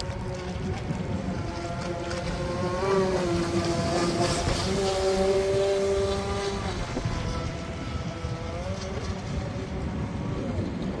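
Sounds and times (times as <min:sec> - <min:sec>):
electric boat motor whining: 0:00.0 - 0:11.0
wind on microphone: 0:00.0 - 0:11.0.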